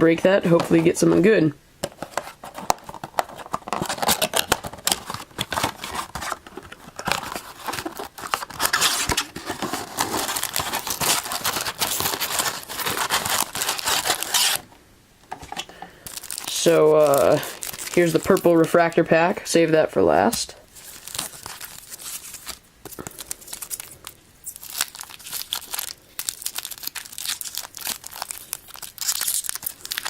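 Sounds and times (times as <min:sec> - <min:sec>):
cardboard and wrapping tearing: 0:02.1 - 0:14.7, 0:16.1 - 0:18.7, 0:20.7 - 0:30.0.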